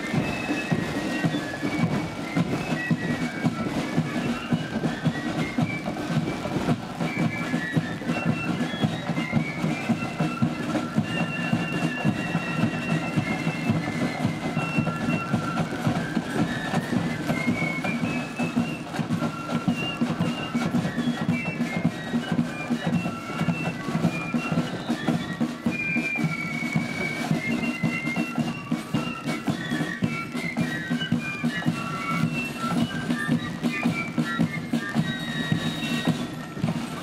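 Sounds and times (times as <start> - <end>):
fast snare drum rudiments: 0.0 - 37.0
flutes playing high melody: 0.0 - 37.0.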